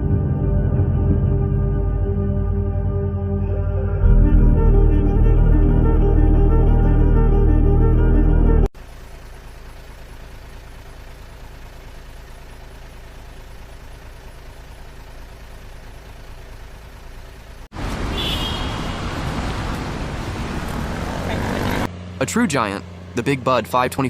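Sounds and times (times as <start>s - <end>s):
heavy vehicle engine running: 0.0s - 24.0s
rough engine: 0.0s - 24.0s.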